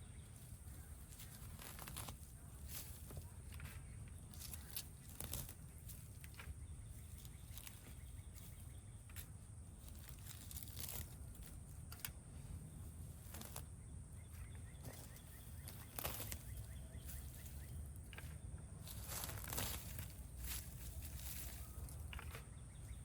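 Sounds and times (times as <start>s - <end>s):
low steady rumble: 0.0s - 23.0s
plants rustling and snapping by hand: 0.0s - 23.0s.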